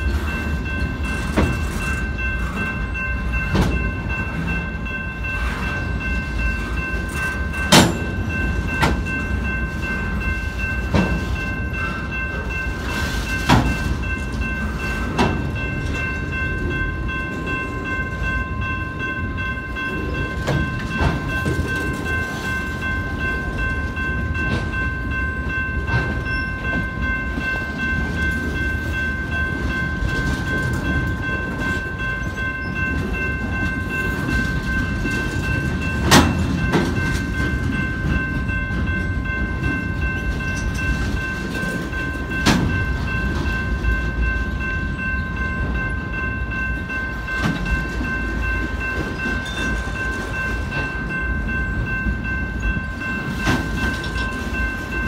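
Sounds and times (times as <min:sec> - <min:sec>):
high-pitched ringing tone: 0:00.0 - 0:55.0
train cars rumbling past: 0:00.0 - 0:55.0.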